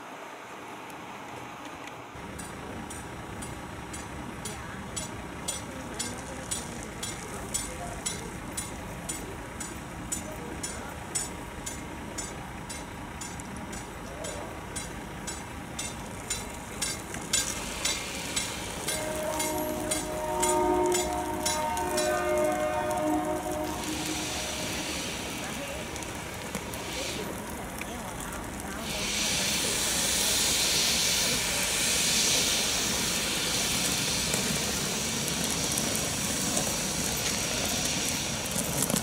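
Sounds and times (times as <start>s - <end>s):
electric train rumble and hiss: 0.0s - 39.0s.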